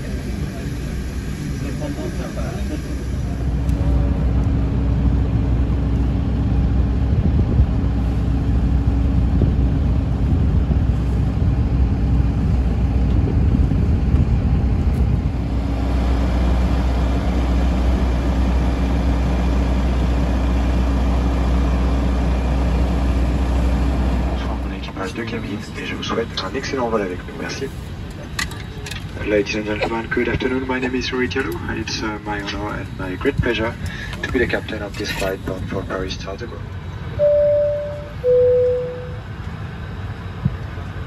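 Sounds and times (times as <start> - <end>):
low machinery drone: 0.0 - 41.0
steady hum tones: 0.0 - 41.0.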